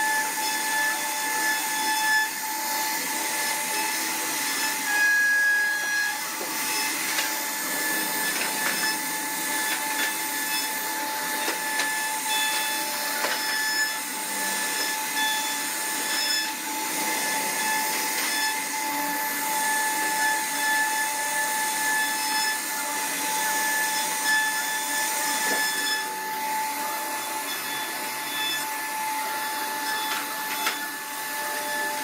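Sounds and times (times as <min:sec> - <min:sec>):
wood router spindle whine: 0:00.0 - 0:32.0.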